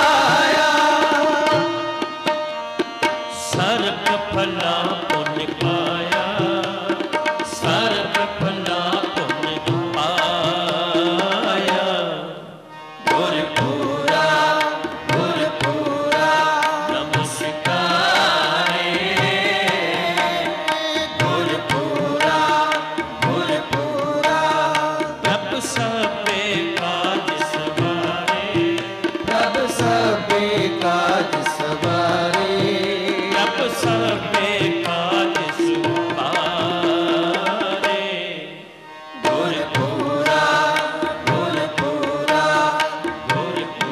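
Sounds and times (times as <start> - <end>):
tabla drumming: 0.0 - 12.2, 12.8 - 43.9
harmonium melody: 0.0 - 43.9.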